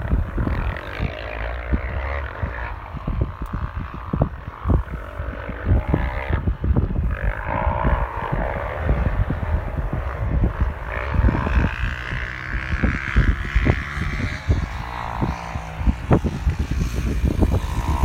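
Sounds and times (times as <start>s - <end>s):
dirt bike engines revving: 0.0s - 18.0s
wind buffeting microphone: 0.0s - 18.0s.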